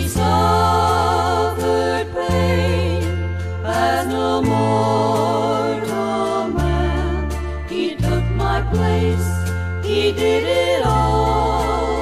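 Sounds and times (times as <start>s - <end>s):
instrumental accompaniment: 0.0s - 12.0s
women singing in harmony: 0.0s - 12.0s.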